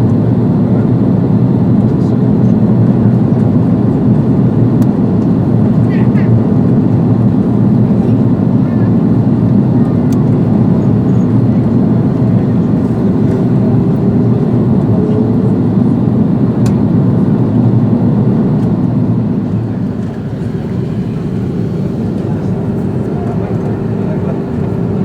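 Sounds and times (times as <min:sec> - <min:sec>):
jet engines and airflow rushing: 0:00.0 - 0:25.0.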